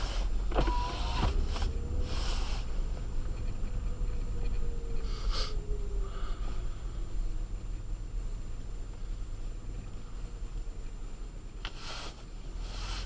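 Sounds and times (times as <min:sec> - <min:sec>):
car driving on snow: 0:00.0 - 0:13.0.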